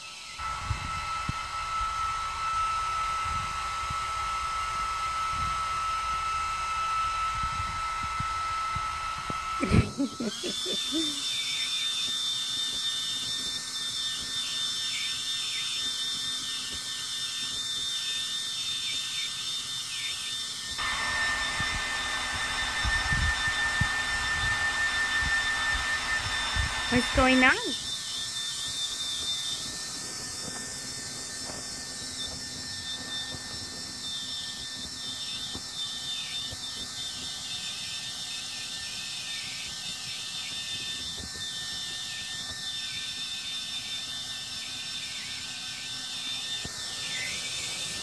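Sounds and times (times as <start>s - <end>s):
hair dryer running: 0.0s - 14.9s, 20.5s - 48.0s.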